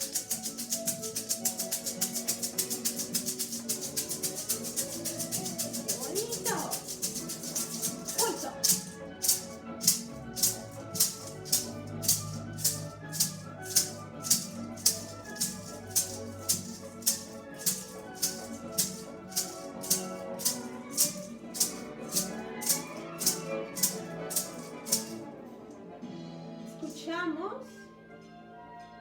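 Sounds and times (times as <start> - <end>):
maraca shaking: 0.0 - 25.3
orchestral music: 0.0 - 27.1.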